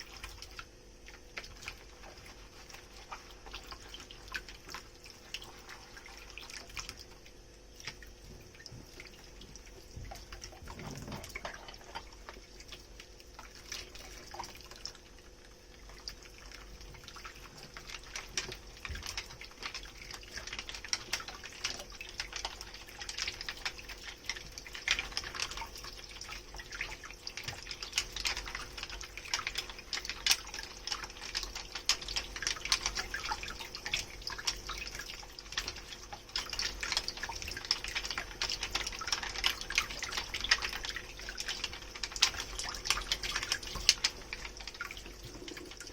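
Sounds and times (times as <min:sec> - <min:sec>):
running and dripping water: 0:00.0 - 0:45.9.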